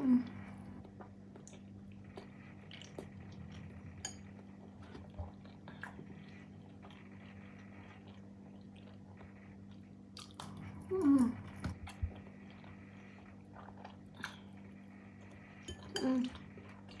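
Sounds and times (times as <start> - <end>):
faint steady hum: 0.0 - 17.0
soft chewing: 0.2 - 17.0.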